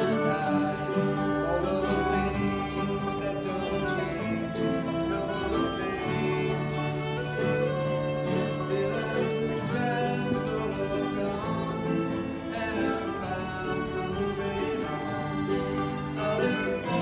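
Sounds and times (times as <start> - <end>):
folk group playing slow song: 0.0 - 17.0.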